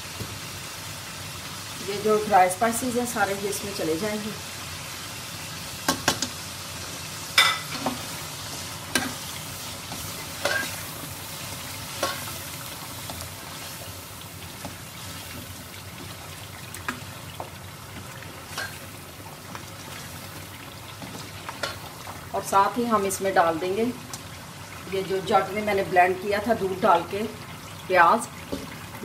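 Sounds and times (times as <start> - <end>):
meat and spices sizzling: 0.0 - 29.0.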